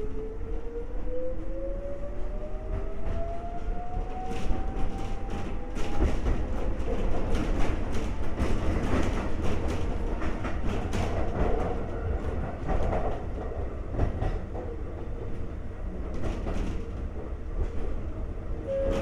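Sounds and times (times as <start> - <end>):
train wheels rumbling on track: 0.4 - 19.0
rail joint clicks and knocks: 2.6 - 19.0.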